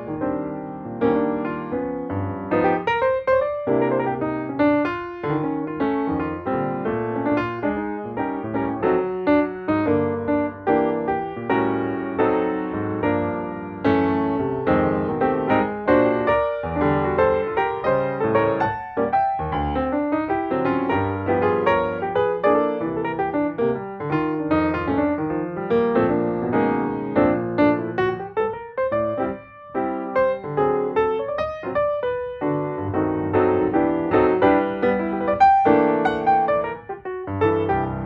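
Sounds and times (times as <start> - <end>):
lively piano music: 0.0 - 38.0.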